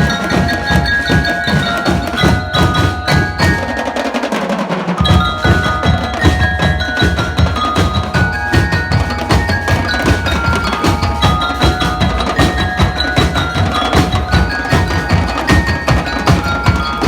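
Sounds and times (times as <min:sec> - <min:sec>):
bell lyres playing melody: 0:00.0 - 0:17.0
snare and bass drums: 0:00.0 - 0:17.0.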